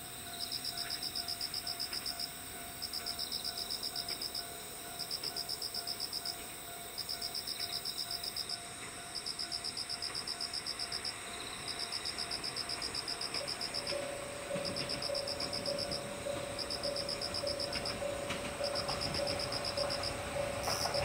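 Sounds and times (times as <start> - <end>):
high-pitched insect trill: 0.0 - 21.0
insect chirping in rhythmic phrases: 0.0 - 21.0.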